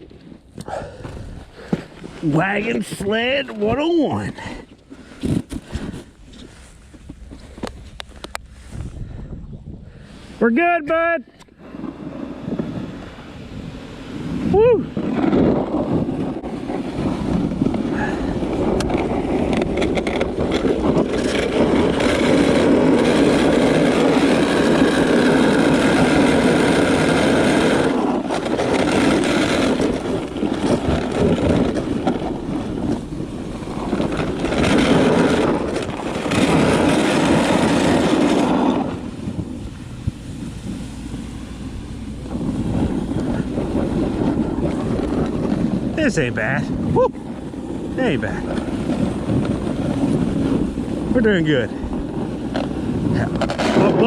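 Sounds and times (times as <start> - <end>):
sled scraping over snow: 0.0 - 9.2, 9.9 - 54.0
wind on microphone: 0.0 - 54.0.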